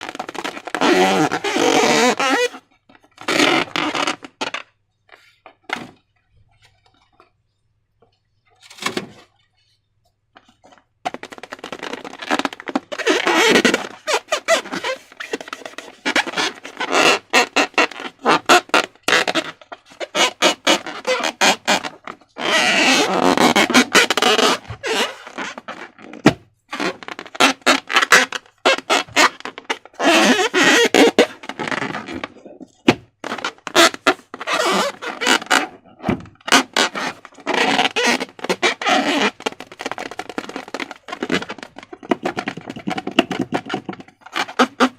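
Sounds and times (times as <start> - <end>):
rubbing balloons: 0.0 - 6.0, 10.6 - 44.9.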